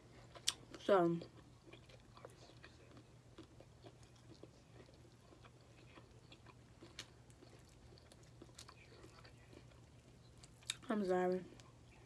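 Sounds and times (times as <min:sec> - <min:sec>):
low steady hum: 0:00.0 - 0:12.0
mouth chewing: 0:00.2 - 0:10.9.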